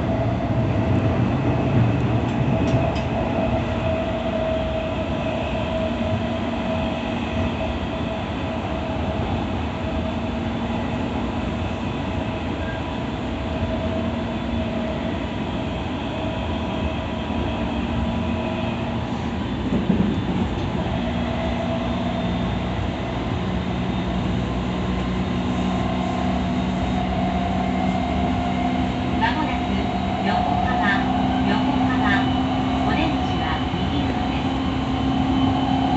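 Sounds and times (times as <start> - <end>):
train wheels rumbling on track: 0.0 - 35.9.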